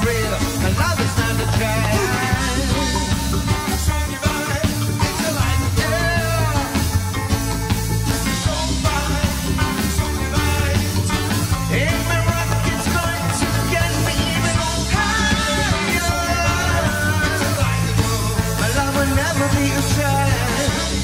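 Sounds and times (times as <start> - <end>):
heavy bass line: 0.0 - 21.0
pitch-bending lead melody: 0.0 - 21.0
reggae band playing: 0.0 - 21.0.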